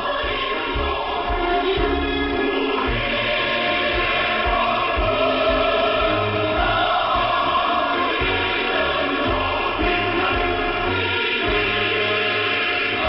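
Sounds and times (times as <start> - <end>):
choral music on shortwave radio: 0.0 - 13.0.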